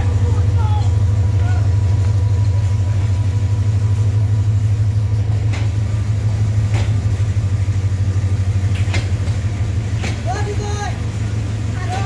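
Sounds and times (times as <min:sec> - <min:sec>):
diesel train engine drone: 0:00.0 - 0:12.0
train wheels clicking on track: 0:00.0 - 0:12.0.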